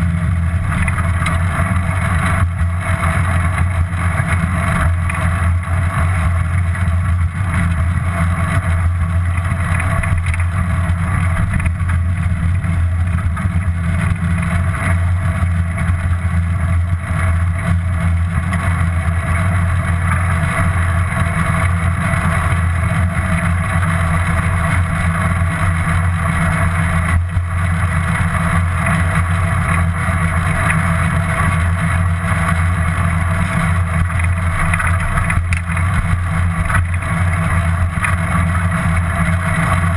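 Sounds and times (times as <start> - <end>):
tyres rumbling on road: 0.0 - 39.9.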